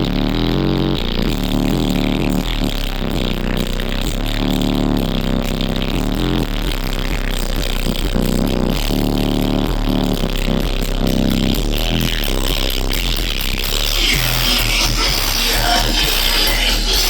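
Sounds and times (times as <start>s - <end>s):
music with deep bass: 0.0s - 17.0s.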